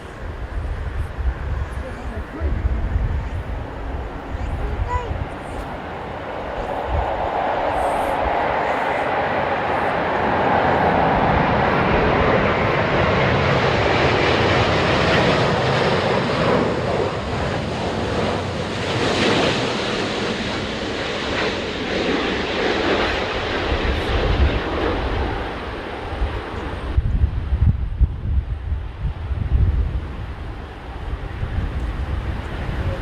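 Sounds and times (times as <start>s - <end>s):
jet engines landing: 0.0s - 33.0s
wind buffeting microphone: 0.0s - 33.0s.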